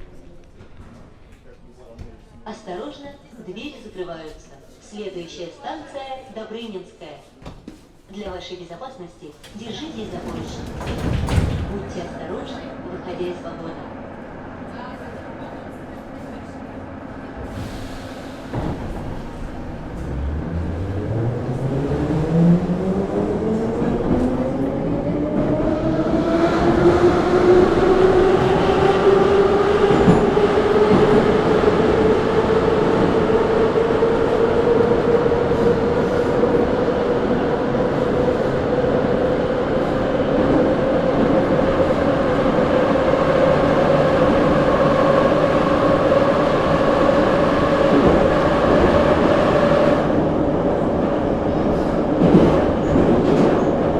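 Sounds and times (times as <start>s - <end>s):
rumble of train wheels: 9.3s - 53.9s.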